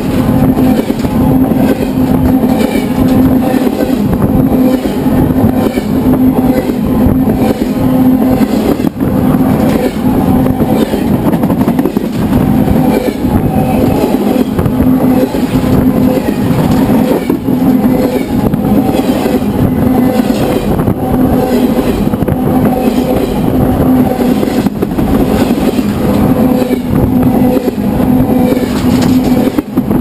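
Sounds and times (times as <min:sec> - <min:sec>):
freight train wheels rumbling: 0:00.0 - 0:30.0.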